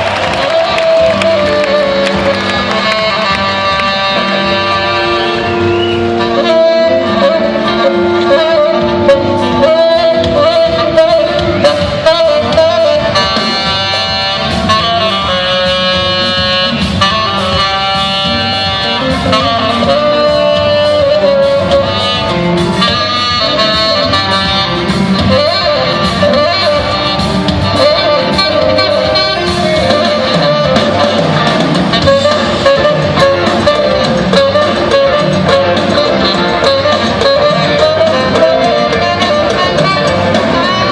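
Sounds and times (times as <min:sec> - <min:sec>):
bass guitar: 0:00.0 - 0:40.9
drums: 0:00.0 - 0:40.9
live rock band playing: 0:00.0 - 0:40.9
wavering lead melody: 0:00.0 - 0:40.9.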